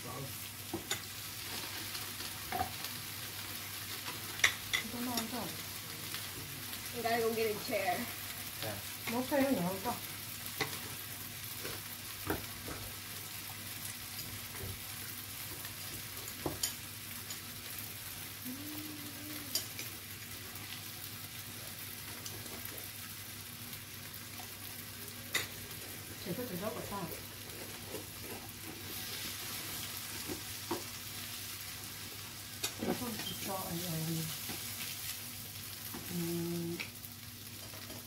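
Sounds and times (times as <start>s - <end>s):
meat sizzling on grill pan: 0.0s - 38.0s.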